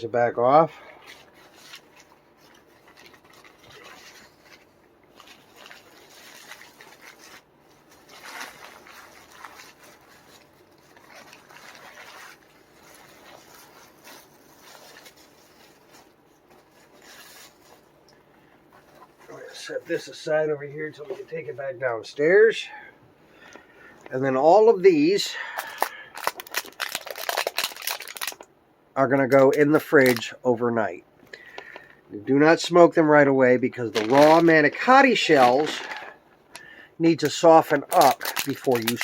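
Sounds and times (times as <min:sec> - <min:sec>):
plastic packaging rustling: 0:00.6 - 0:21.5, 0:24.0 - 0:28.5, 0:29.2 - 0:30.4, 0:33.8 - 0:39.0.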